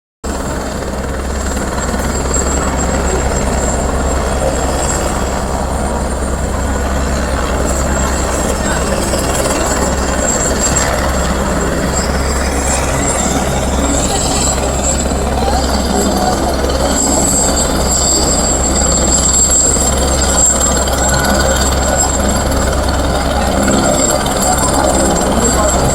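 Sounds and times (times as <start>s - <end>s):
helicopter rotor drone: 0.2s - 25.9s
high whine: 0.3s - 25.9s.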